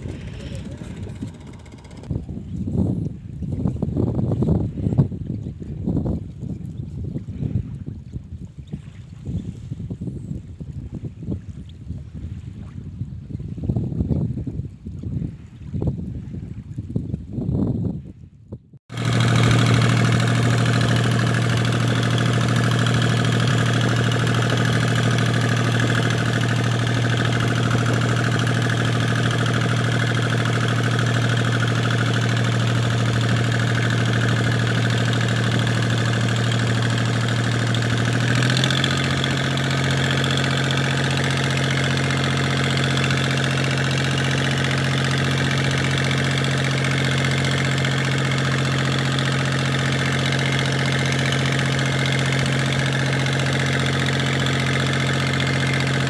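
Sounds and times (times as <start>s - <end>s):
boat engine running: 0.0s - 12.6s, 18.9s - 56.0s.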